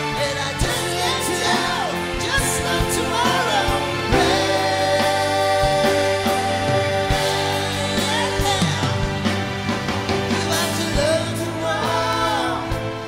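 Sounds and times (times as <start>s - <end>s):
drums: 0.0s - 13.0s
electric bass: 0.0s - 13.0s
electric guitar: 0.0s - 13.0s
keyboard: 0.0s - 13.0s.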